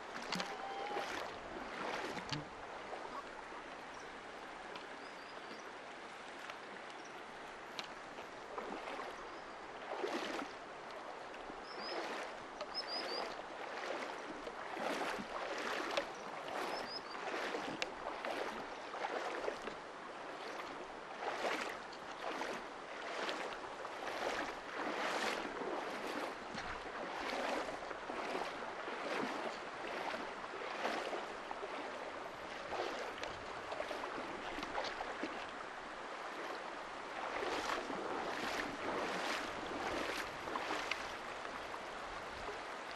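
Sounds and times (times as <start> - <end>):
feet splashing in stream: 0.0 - 42.9
rushing stream water: 0.0 - 42.9.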